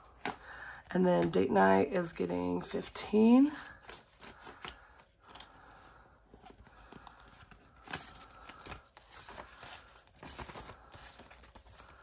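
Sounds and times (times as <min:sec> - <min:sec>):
banknotes rustling and flicking: 0:00.0 - 0:12.0.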